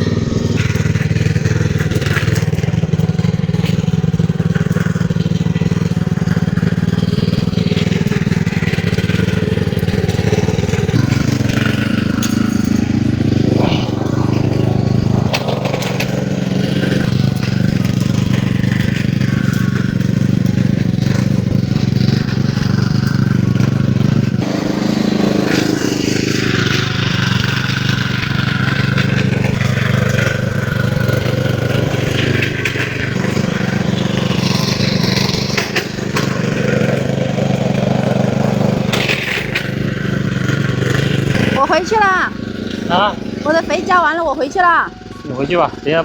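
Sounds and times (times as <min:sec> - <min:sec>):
small petrol engine running: 0:00.0 - 0:46.0.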